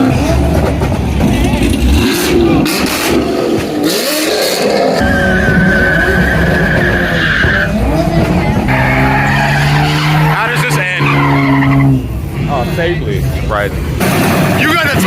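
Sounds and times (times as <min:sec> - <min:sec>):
car engine: 0:00.0 - 0:15.0
car tyres squealing: 0:00.0 - 0:15.0.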